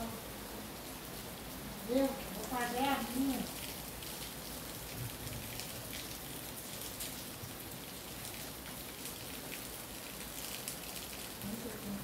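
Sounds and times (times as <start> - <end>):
steady rain on leaves: 0.0 - 12.0.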